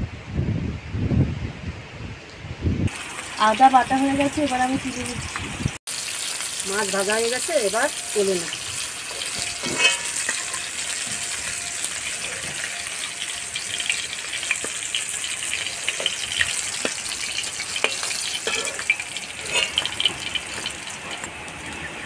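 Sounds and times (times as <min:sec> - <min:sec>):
oil sizzling in a wok: 0:02.9 - 0:22.0.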